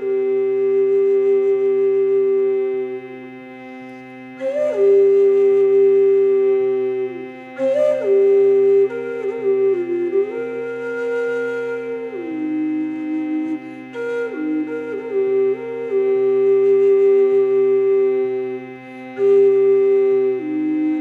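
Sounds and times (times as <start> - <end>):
flute slow melody: 0.0 - 21.0.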